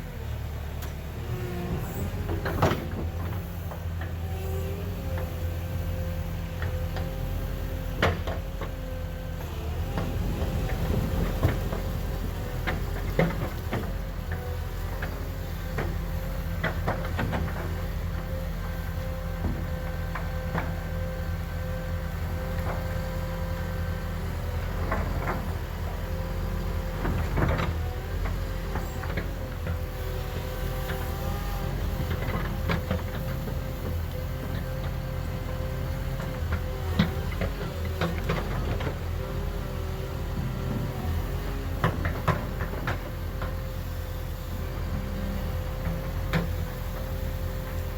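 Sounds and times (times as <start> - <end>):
earth-moving machine engine: 0.0 - 47.9.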